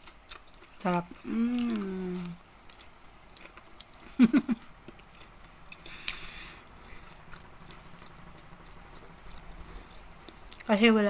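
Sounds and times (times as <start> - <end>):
person chewing soft dough: 0.0 - 11.0.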